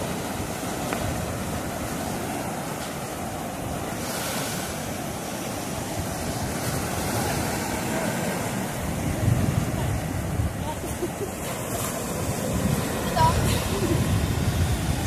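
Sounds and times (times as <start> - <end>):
surf breaking over rocks: 0.0 - 15.0.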